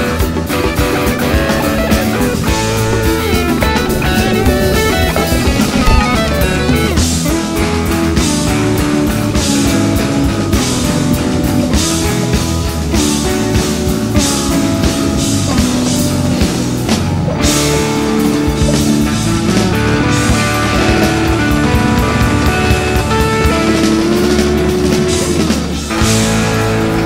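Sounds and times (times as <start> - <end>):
rock music with guitar and drums: 0.0 - 27.0.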